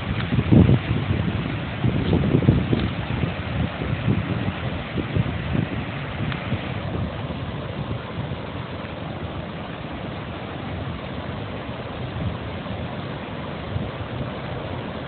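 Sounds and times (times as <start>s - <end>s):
river rapids and waterfall roaring: 0.0s - 15.0s.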